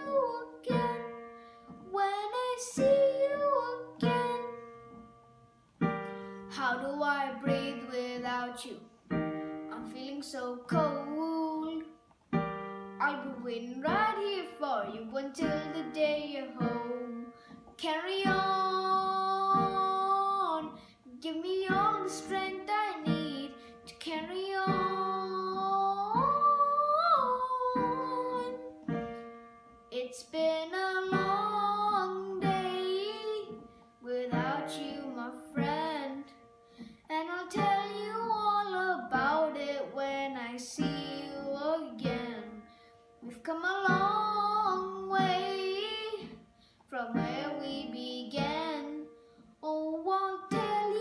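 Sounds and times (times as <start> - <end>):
boy singing: 0.0 - 1.2, 1.8 - 4.6, 6.5 - 11.9, 13.0 - 29.1, 29.9 - 36.3, 37.1 - 42.6, 43.2 - 51.0.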